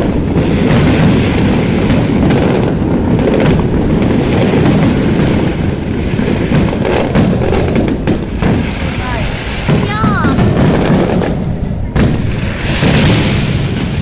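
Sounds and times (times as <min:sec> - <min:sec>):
fireworks booming: 0:00.0 - 0:14.0
fireworks sharp cracks: 0:00.0 - 0:14.0.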